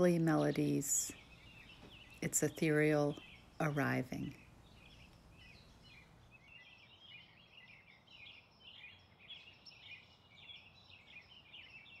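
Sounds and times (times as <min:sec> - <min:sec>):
birds twittering: 0:00.0 - 0:12.0.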